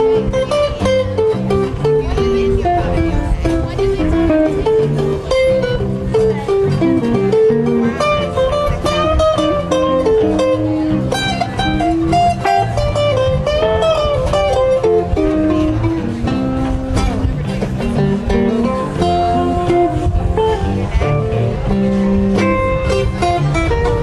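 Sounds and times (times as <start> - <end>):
lead guitar with bent notes: 0.0 - 24.0
live rock band playing: 0.0 - 24.0.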